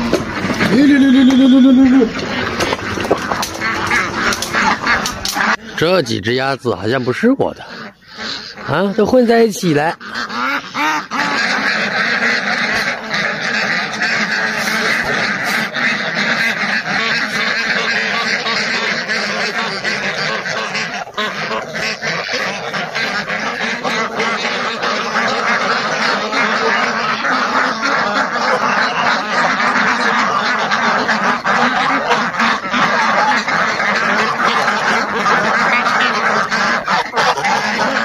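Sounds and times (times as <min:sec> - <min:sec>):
ducks quacking: 0:00.0 - 0:38.0.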